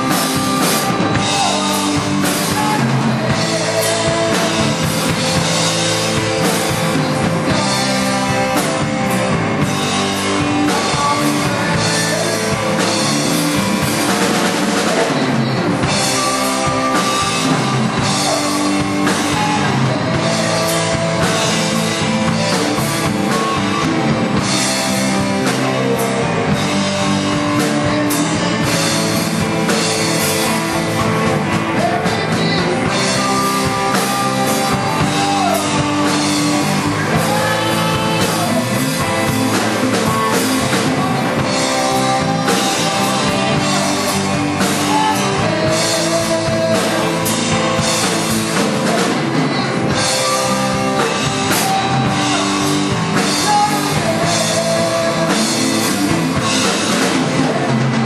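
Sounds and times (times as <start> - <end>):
bass guitar: 0.0 - 58.0
drum kit beat: 0.0 - 58.0
electric guitars: 0.0 - 58.0.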